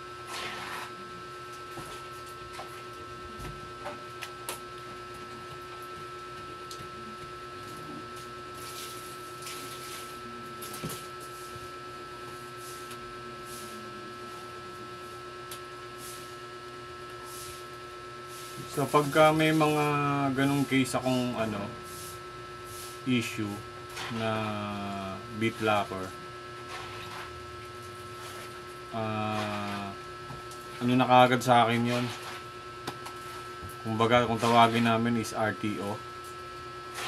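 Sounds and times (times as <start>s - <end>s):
two-tone electrical hum: 0.0s - 37.0s.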